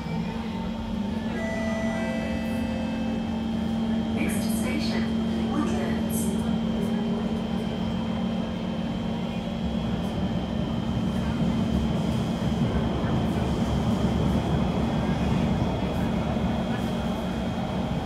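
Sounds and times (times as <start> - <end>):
electric train hum: 0.0 - 18.0
train running rumble: 0.0 - 18.0.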